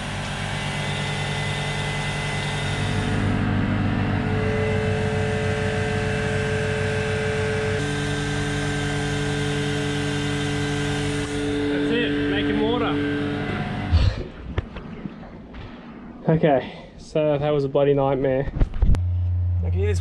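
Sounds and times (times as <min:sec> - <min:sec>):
water maker pump humming: 0:00.0 - 0:16.6.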